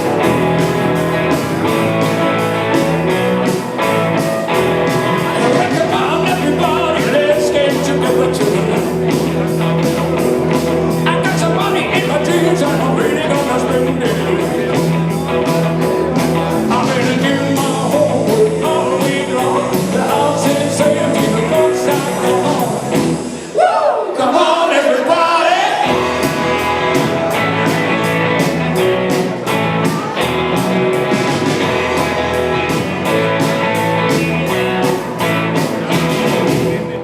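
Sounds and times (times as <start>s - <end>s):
drums steady beat: 0.0s - 23.5s, 25.8s - 37.0s
rock and roll band: 0.0s - 37.0s.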